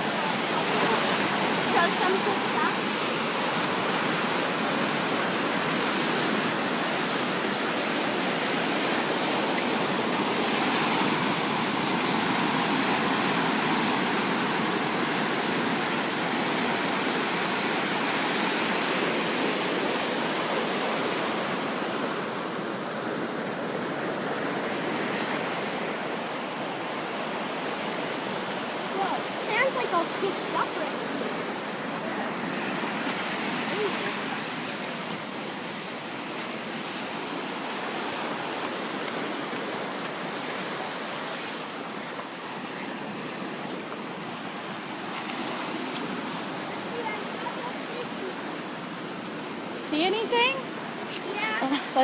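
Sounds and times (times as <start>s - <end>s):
ocean surf washing on beach: 0.0s - 52.0s.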